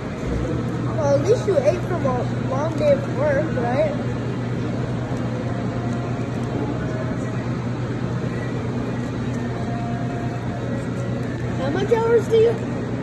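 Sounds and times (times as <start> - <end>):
restaurant room noise: 0.0 - 13.0.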